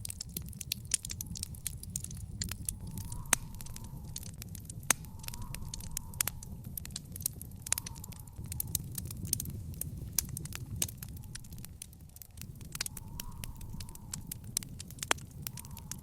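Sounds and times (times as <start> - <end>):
low steady rumble: 0.0 - 16.0
wood fire crackling and popping: 0.0 - 16.0.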